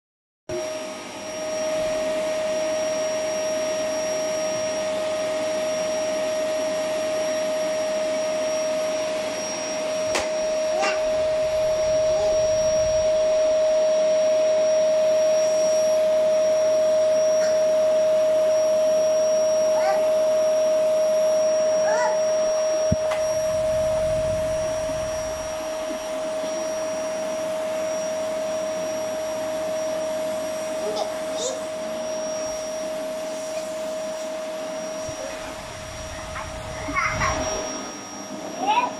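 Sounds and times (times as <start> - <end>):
vacuum cleaner running: 0.5 - 38.9.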